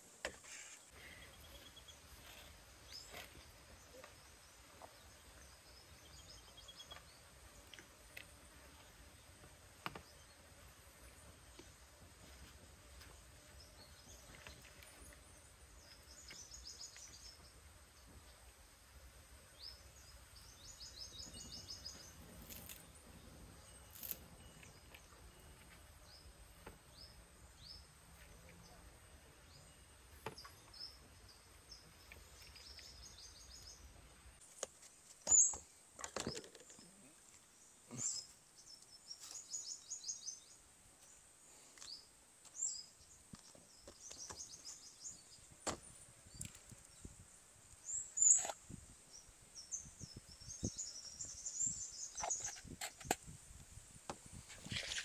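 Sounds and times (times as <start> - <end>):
small birds chirping: 0.1 - 12.4, 13.1 - 18.4, 19.5 - 53.3.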